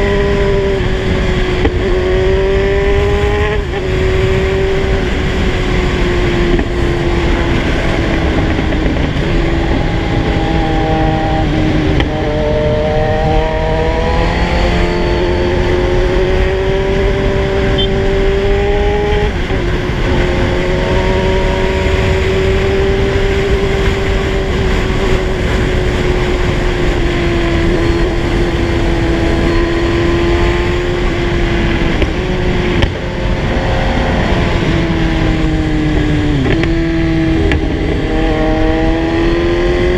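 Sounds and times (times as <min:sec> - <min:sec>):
motorcycle engine cruising: 0:00.0 - 0:39.9
wind rushing on microphone: 0:00.0 - 0:39.9.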